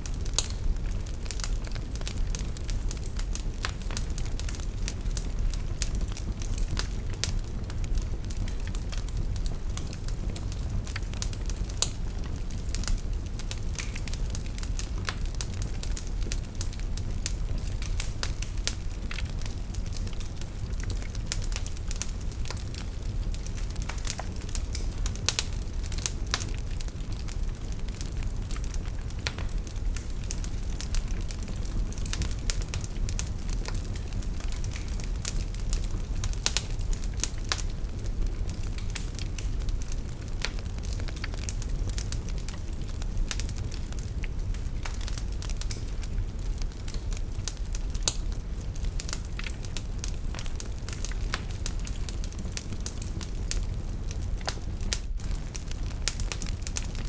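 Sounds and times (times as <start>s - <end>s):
logs crackling and popping: 0.0s - 57.0s
wood fire burning: 0.0s - 57.0s.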